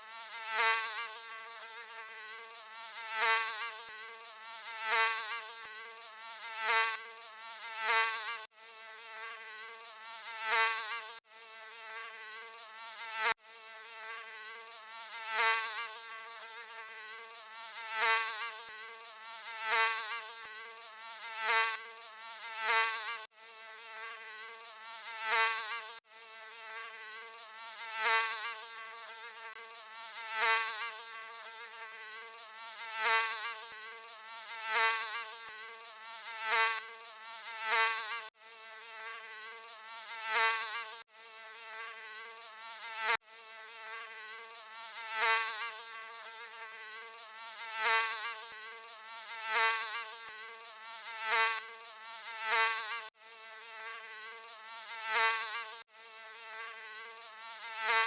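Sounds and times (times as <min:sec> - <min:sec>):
mosquito buzzing: 0:00.0 - 0:58.0.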